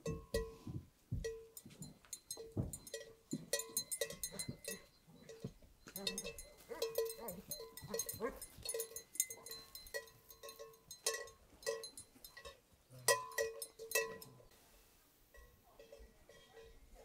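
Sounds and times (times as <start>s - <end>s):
livestock bell clanking: 0.0s - 14.6s, 15.2s - 17.0s.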